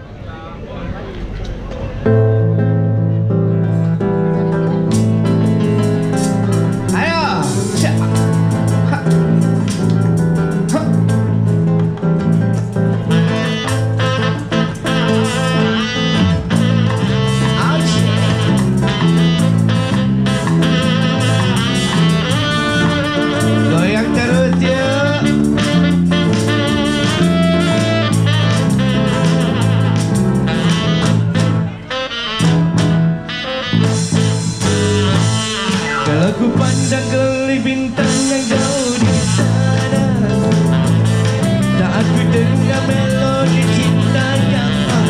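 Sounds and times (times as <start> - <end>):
keyboard: 0.0 - 45.0
electric guitar: 1.4 - 45.0
bass line: 2.0 - 45.0
live band playing dangdut song: 2.1 - 45.0
drum kit: 4.0 - 45.0.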